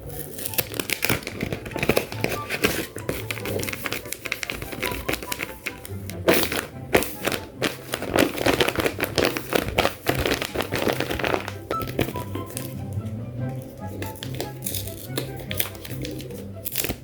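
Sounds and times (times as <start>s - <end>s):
packaging crinkling and tearing: 0.0s - 12.8s, 13.7s - 17.0s
background music: 0.0s - 17.0s.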